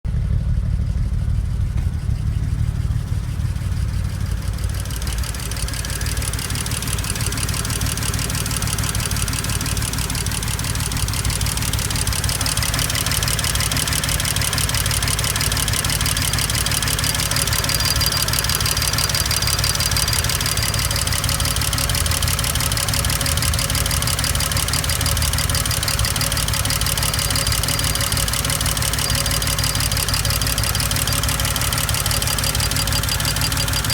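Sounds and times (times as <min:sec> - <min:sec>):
car engine idling: 0:00.0 - 0:33.9
fast even engine ticking: 0:00.1 - 0:33.9.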